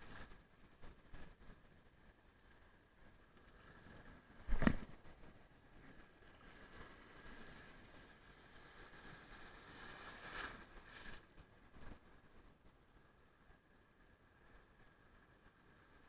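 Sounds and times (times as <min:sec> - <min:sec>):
faint outdoor background hiss: 0:00.0 - 0:16.0.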